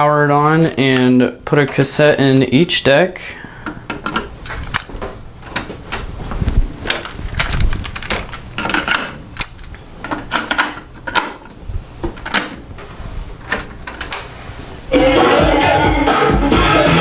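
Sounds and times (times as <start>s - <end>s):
cassettes clicking and knocking: 0.3s - 14.4s.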